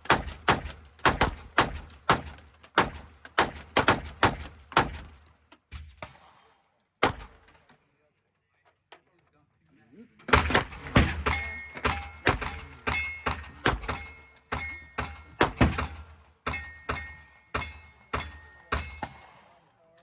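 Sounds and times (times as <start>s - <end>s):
gunshots: 0.0s - 7.5s, 10.2s - 19.7s.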